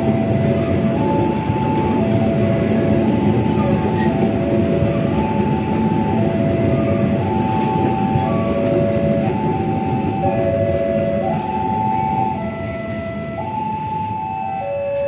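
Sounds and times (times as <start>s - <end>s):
level-crossing warning chimes: 0.0s - 15.0s
train wheels rumbling on rails: 0.0s - 15.0s.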